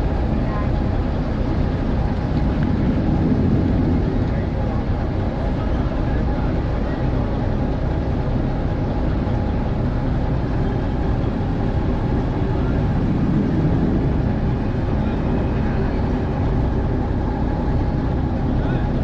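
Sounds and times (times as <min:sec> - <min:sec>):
low rumble of vehicle noise: 0:00.0 - 0:19.0.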